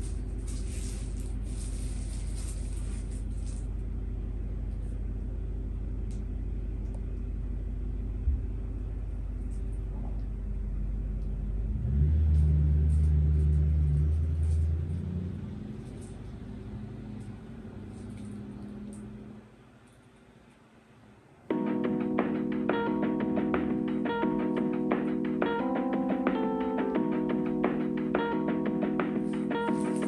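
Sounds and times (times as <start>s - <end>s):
low mechanical rumble and hum: 0.0s - 30.0s.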